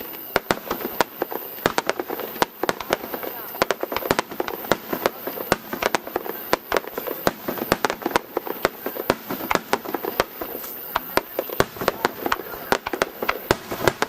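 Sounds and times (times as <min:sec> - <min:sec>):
fireworks bangs: 0:00.0 - 0:14.0
fireworks crackling and rumble: 0:00.0 - 0:14.0.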